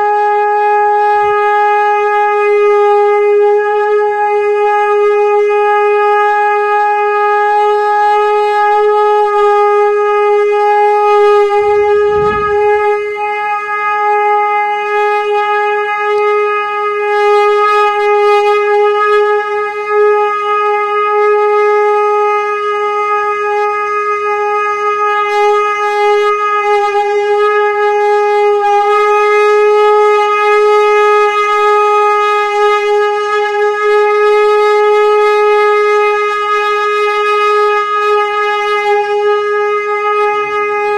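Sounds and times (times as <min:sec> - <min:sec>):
conch shell blown: 0:00.0 - 0:40.9.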